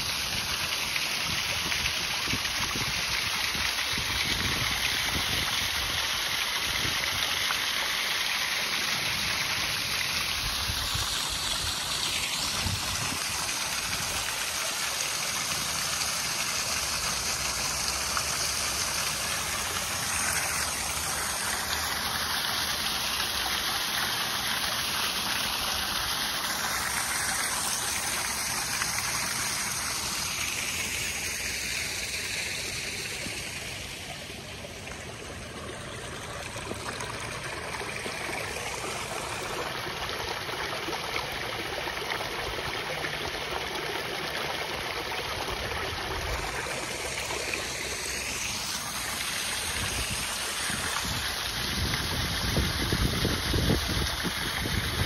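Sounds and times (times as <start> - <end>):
water splashing into pool: 0.0 - 55.0.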